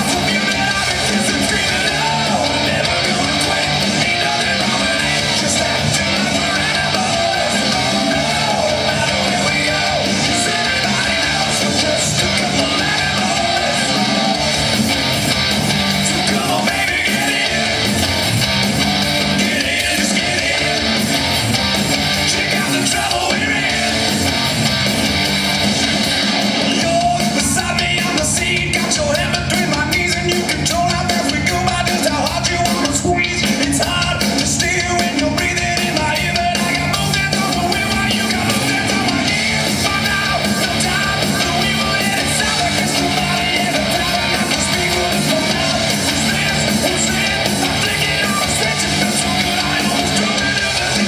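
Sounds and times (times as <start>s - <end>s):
loud rock music: 0.0s - 51.0s.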